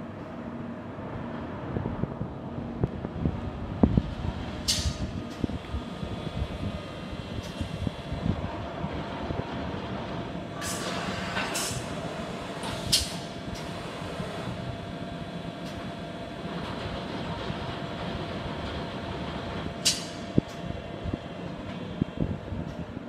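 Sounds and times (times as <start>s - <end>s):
machine hum with faint whine: 0.0s - 23.0s.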